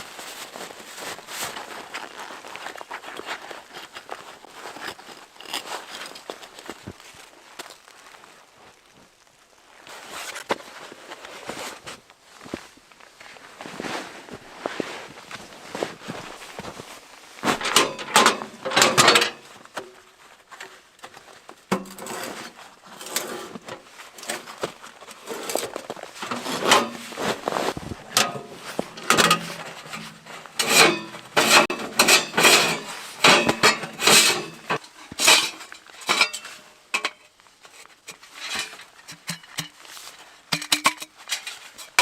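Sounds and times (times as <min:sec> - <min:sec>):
rustling: 0:00.0 - 0:42.0.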